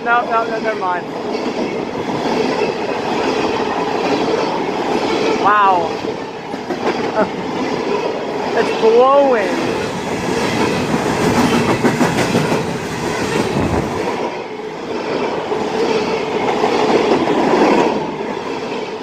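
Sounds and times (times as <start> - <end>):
train wheels rattling on rails: 0.0 - 19.0.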